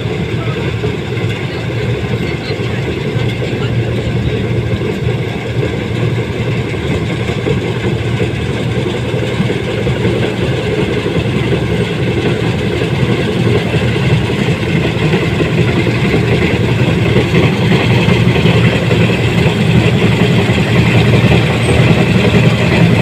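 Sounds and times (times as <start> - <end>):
combine harvester engine running: 0.0 - 23.0.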